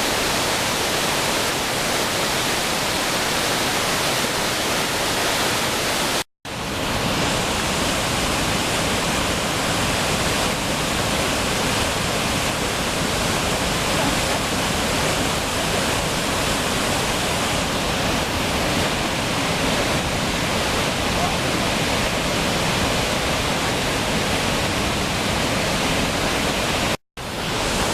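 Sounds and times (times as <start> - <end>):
waterfall pouring: 0.0 - 27.9.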